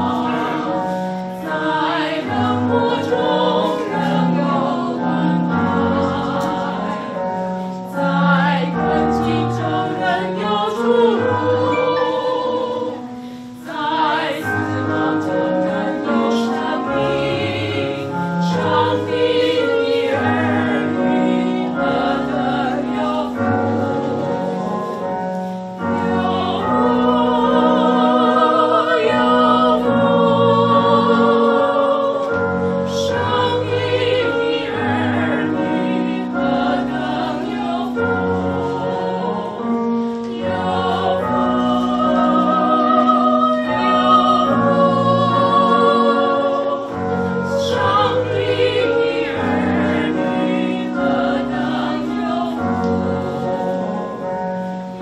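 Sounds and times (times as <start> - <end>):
instrumental accompaniment: 0.0 - 55.0
women's choir singing a hymn: 0.0 - 55.0.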